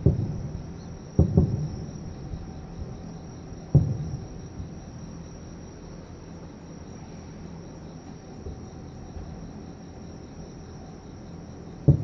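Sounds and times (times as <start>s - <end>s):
insects trilling: 0.0s - 12.0s
low background rumble: 0.0s - 12.0s.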